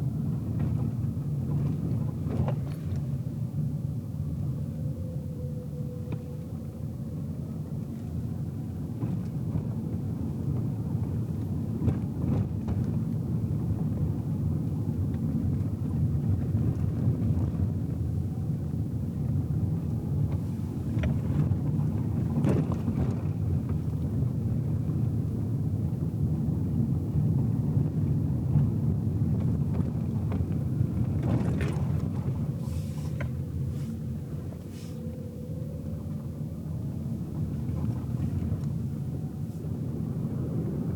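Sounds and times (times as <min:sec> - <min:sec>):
tyres rumbling on road: 0:00.0 - 0:40.9.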